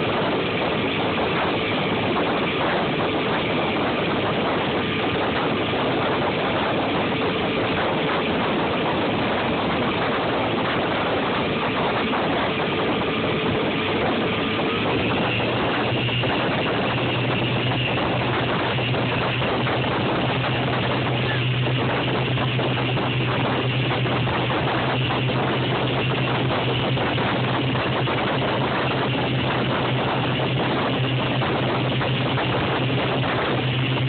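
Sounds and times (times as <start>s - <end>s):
loud rushing noise: 0.0s - 34.0s
low hum: 0.0s - 34.0s
motorboat engine running: 0.0s - 34.0s.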